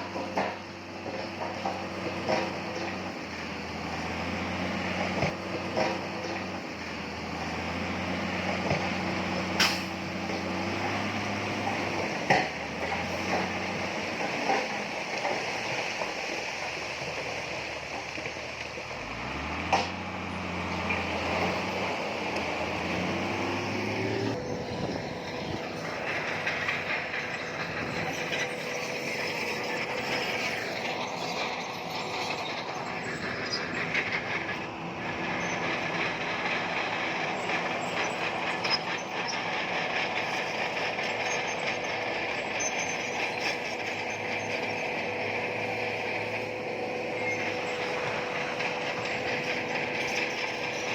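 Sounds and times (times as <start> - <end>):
bulldozer diesel engine under load: 0.0 - 50.9
steel tracks clanking: 0.0 - 50.9.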